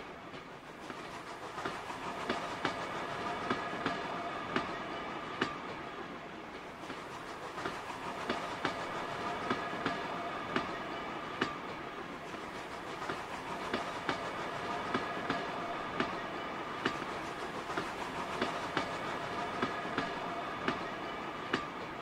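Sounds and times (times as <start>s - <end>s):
wheels rolling on track: 0.0s - 22.0s
wheels clicking over rail joints: 0.1s - 22.0s.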